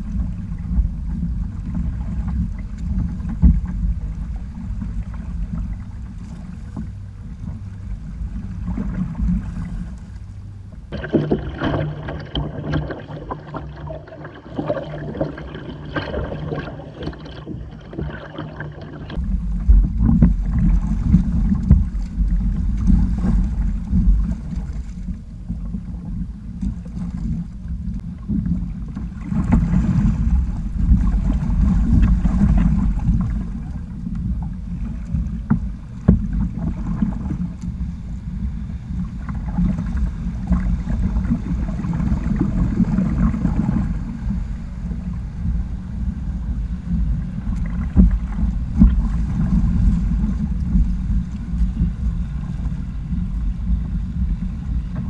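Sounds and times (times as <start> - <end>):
water splashing against kayak hull: 0.0 - 55.0
wind rumble on microphone: 0.0 - 55.0.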